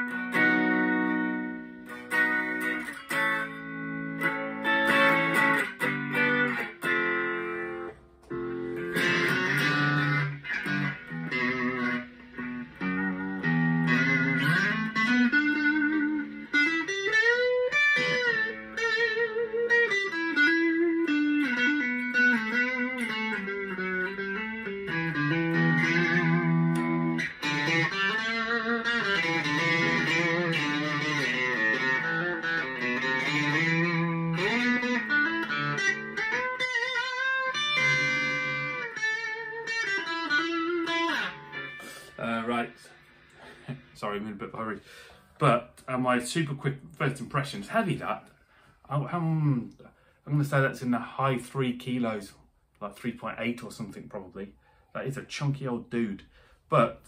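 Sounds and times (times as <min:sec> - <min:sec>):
electric guitar through amplifier: 0:00.0 - 0:47.5.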